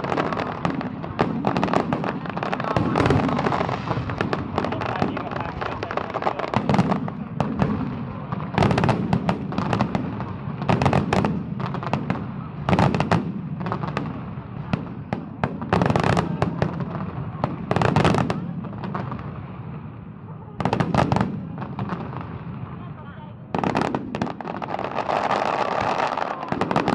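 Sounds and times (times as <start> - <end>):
fireworks crackling bangs: 0.0 - 26.9.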